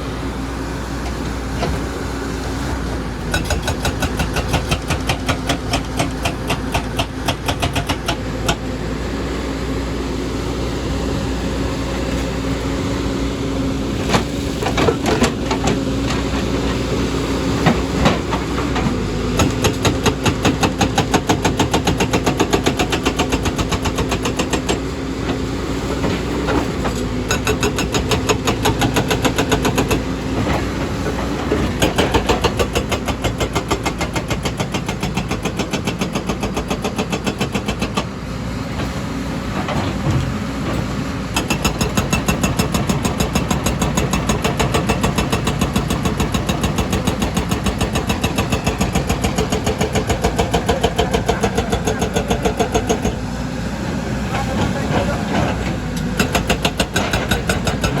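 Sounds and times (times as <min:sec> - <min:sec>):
excavator diesel engine working: 0:00.0 - 0:58.0.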